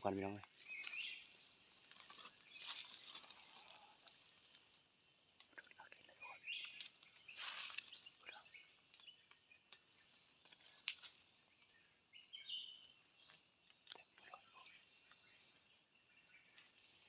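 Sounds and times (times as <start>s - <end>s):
bird chirps: 0.0s - 3.9s, 5.8s - 17.0s
insect sounds: 0.0s - 17.0s.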